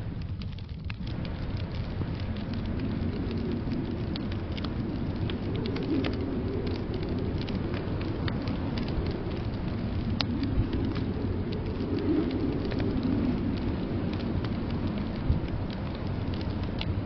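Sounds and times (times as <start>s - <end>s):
blizzard wind rumbling: 0.0s - 17.0s
wood fire crackling: 0.0s - 17.0s.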